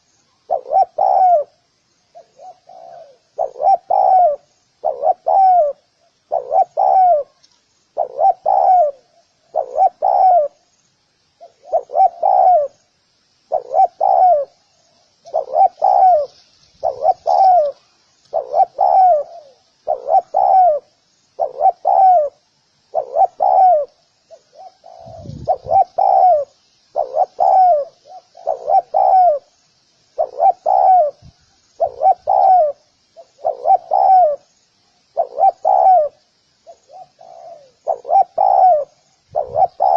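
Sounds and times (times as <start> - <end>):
dove cooing: 0.0 - 10.6, 11.4 - 12.8, 13.5 - 34.5, 35.1 - 39.9.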